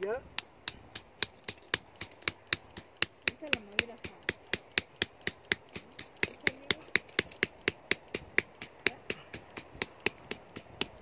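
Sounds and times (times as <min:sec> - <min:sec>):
hammer tapping wooden stake: 0:00.3 - 0:11.0.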